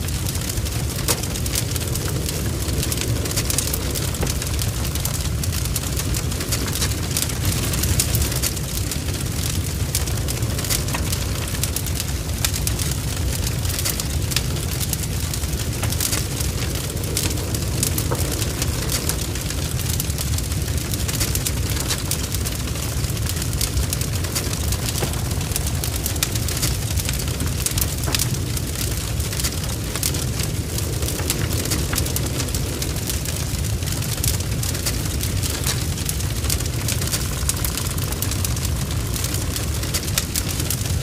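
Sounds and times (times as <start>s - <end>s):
burning logs crackling: 0.0s - 41.0s
low rumble of flames: 0.0s - 41.0s.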